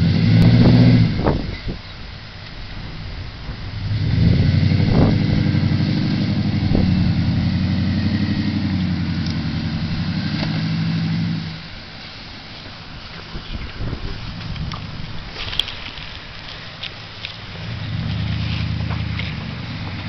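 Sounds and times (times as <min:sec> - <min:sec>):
pickup truck engine running: 0:00.0 - 0:20.0.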